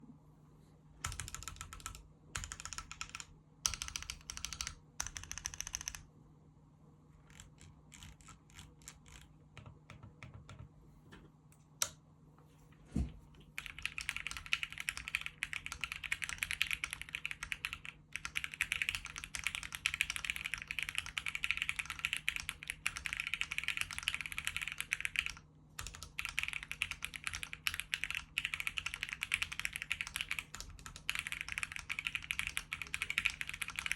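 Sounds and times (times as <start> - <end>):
mechanical keyboard typing: 1.0 - 6.0, 7.3 - 10.7, 13.6 - 33.9.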